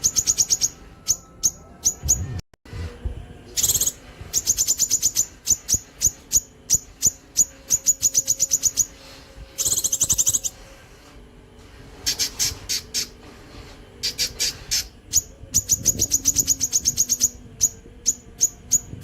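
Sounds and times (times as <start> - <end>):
buzzy bird trill: 0.0 - 2.4, 3.6 - 10.7, 11.9 - 13.2, 13.9 - 19.0.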